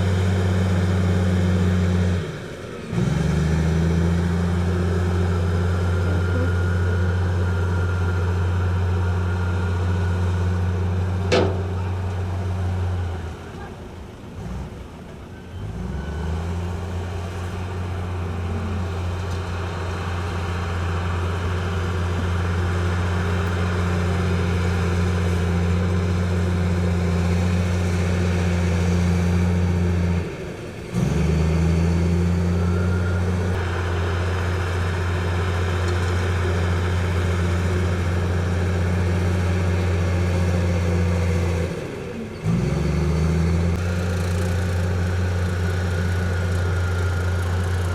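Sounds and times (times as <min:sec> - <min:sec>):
heavy diesel engine droning: 0:00.0 - 0:47.9.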